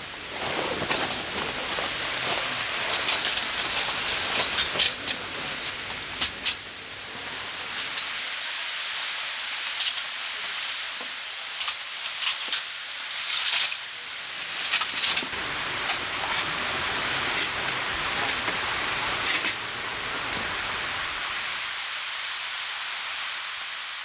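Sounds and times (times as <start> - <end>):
raindrops hitting a surface: 0.0 - 24.0
steady rain falling: 0.0 - 24.0.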